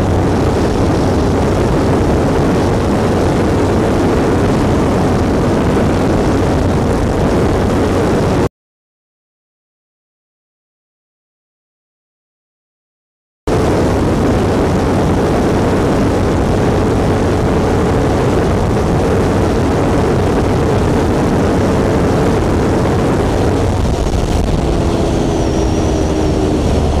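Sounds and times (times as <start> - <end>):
motorcycle engine at speed: 0.0 - 8.5, 13.5 - 27.0
wind rush on microphone: 0.0 - 8.5, 13.5 - 27.0.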